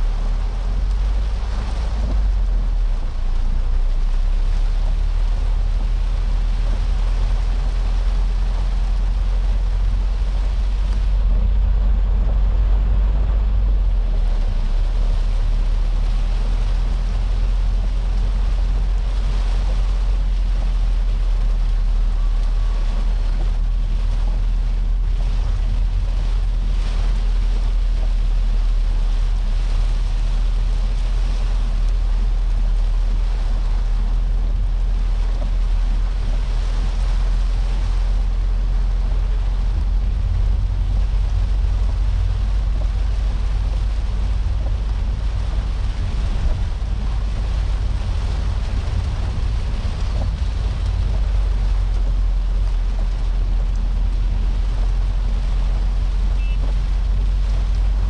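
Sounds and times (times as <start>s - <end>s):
car engine and road rumble: 0.0s - 58.0s
rain hissing on car roof: 0.0s - 58.0s
tyres on wet road: 0.0s - 58.0s.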